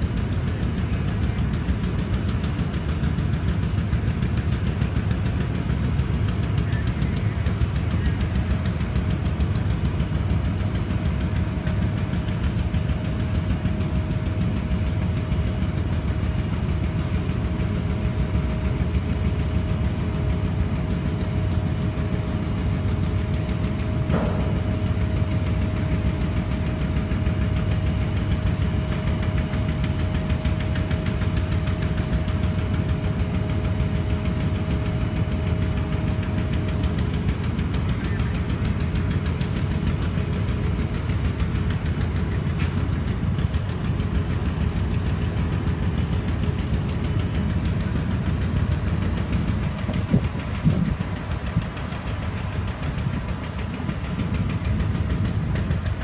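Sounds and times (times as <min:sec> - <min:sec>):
diesel engines rumbling: 0:00.0 - 0:56.0
faint steady whine: 0:00.0 - 0:56.0.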